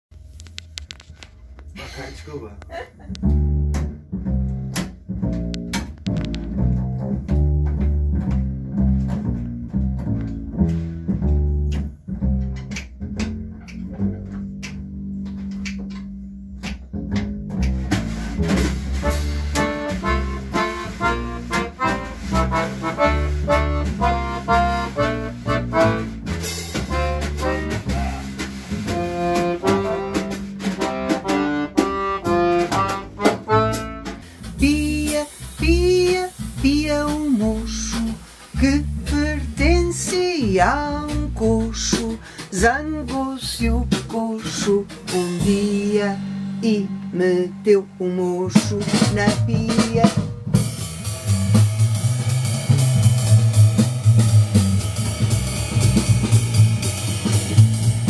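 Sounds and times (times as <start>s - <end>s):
double bass plucked: 0.1s - 58.0s
band music: 0.2s - 58.0s.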